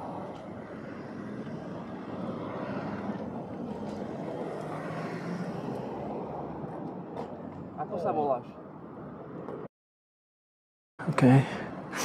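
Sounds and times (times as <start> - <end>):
road traffic passing: 0.0 - 9.7.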